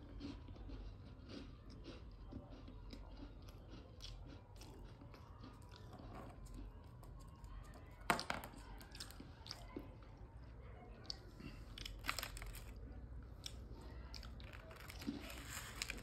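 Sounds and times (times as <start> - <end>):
parrot crunching biscuit: 0.0 - 9.8, 11.1 - 16.0.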